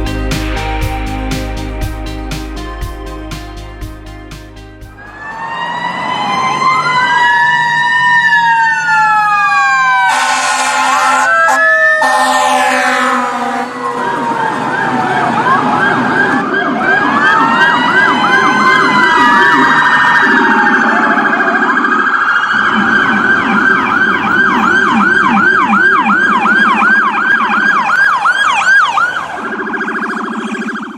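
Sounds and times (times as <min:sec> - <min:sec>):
siren fast yelp: 0:05.0 - 0:30.9
siren slow wail: 0:05.0 - 0:30.9.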